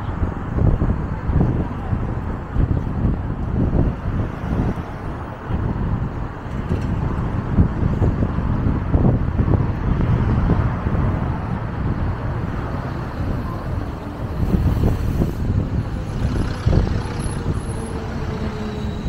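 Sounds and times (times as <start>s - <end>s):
passing cars and road noise: 0.0s - 19.0s.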